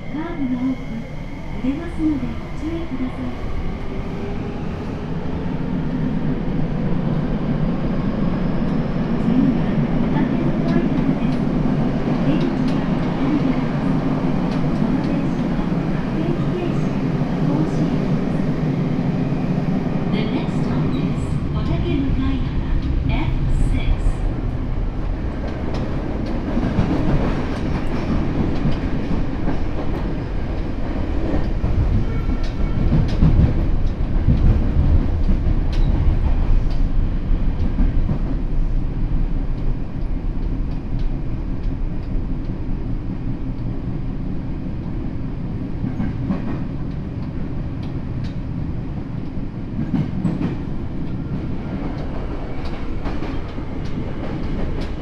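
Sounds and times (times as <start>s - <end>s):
train wheels rumbling on rail: 1.7s - 55.0s.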